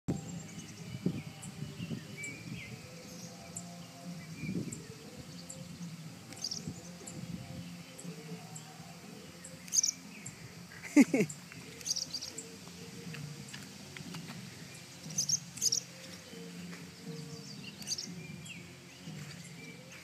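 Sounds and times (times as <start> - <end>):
birds chirping: 0.1 - 20.0.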